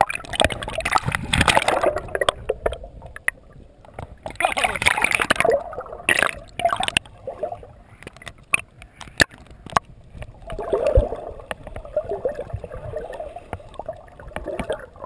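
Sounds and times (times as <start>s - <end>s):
muffled underwater gurgling: 0.0s - 15.0s.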